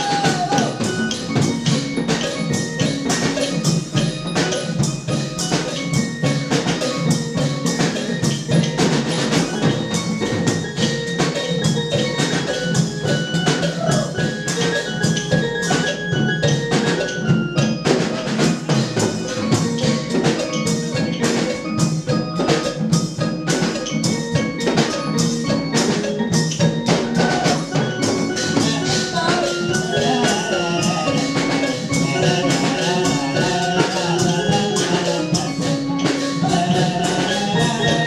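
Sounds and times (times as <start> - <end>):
drums playing dance rhythm: 0.0 - 38.0
pitched melody: 0.0 - 38.0.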